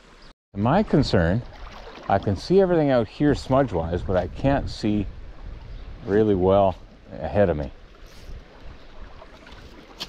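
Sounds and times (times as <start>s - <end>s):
stream rushing over shingle: 0.7s - 10.0s.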